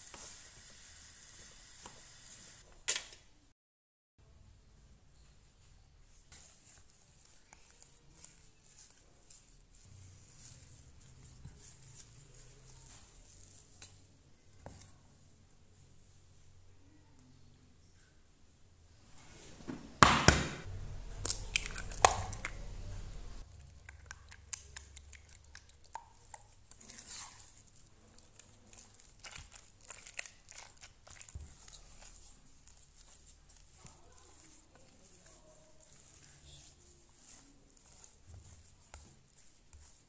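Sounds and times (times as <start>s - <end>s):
spatula squishing dough: 0.0s - 2.7s, 5.2s - 16.4s, 20.7s - 40.0s.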